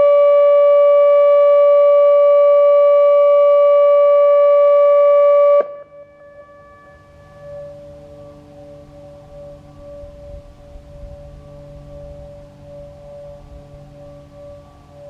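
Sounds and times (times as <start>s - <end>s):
distant sirens: 0.0s - 15.0s
electronic warning siren: 0.0s - 15.0s.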